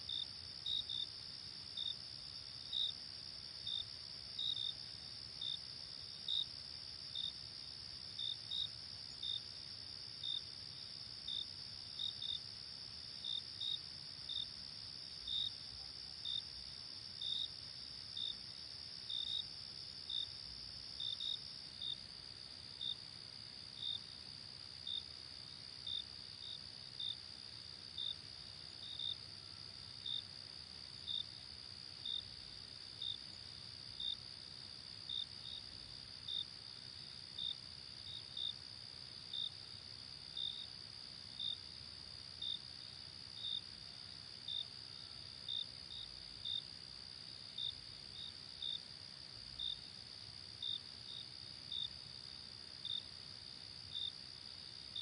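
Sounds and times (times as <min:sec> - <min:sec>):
cricket chirps: 0:00.0 - 0:55.0.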